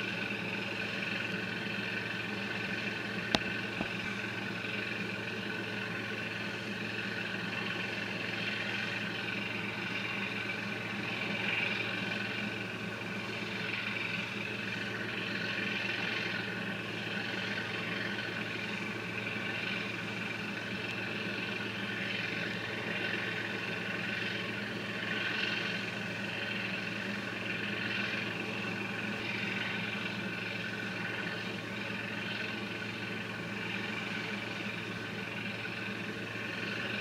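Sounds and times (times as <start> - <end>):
engine drone: 0.0 - 37.0.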